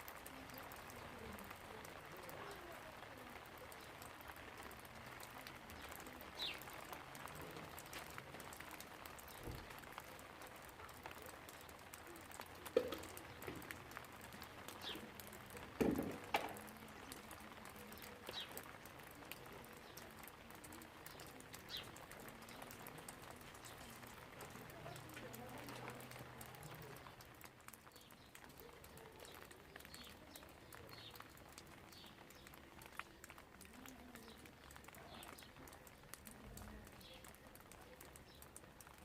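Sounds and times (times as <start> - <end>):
light rain: 0.0 - 39.0.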